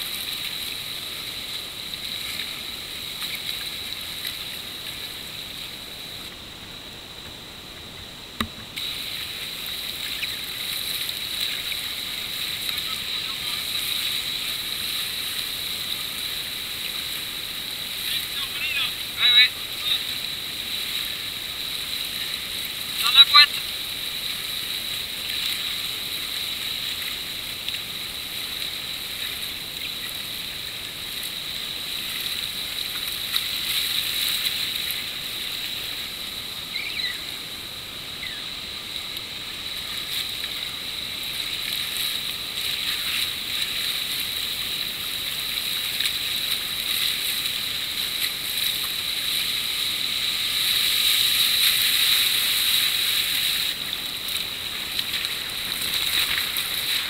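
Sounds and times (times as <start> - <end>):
rushing whitewater: 0.0 - 57.0
water splashing around boat: 8.4 - 37.4, 38.9 - 57.0.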